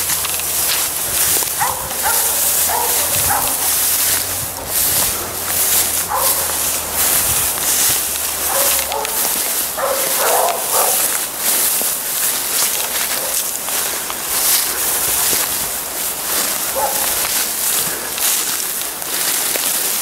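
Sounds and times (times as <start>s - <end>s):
hunting dogs barking: 0.0s - 13.9s, 14.6s - 18.2s
steady high hiss: 0.0s - 20.0s.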